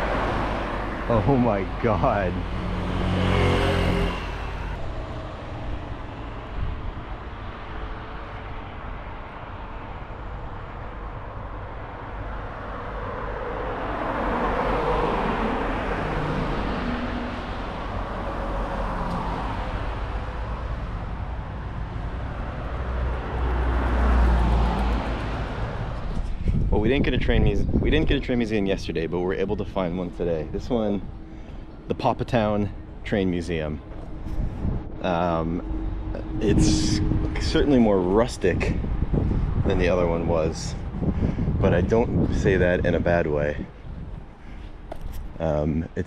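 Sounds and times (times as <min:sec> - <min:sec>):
car passing: 0:00.0 - 0:26.8, 0:29.0 - 0:45.6
wind and road noise: 0:00.0 - 0:46.0.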